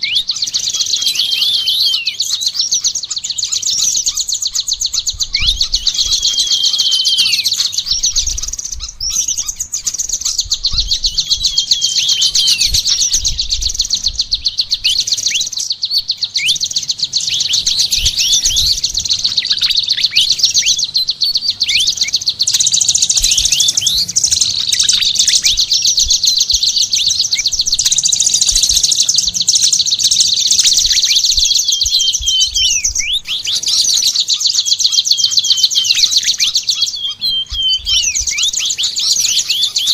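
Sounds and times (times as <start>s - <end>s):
songbirds trilling and whistling: 0.0s - 39.9s.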